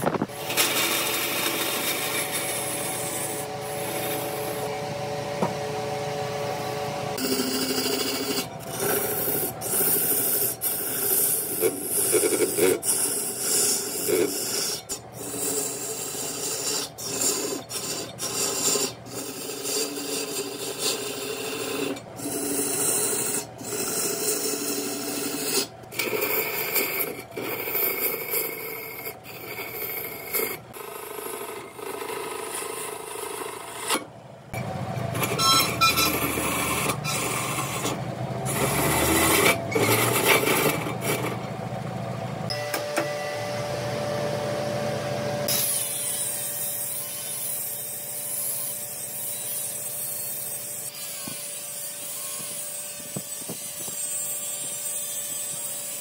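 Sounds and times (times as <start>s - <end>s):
wood lathe scraping hiss: 0.0s - 34.1s, 35.1s - 41.4s, 44.5s - 56.0s.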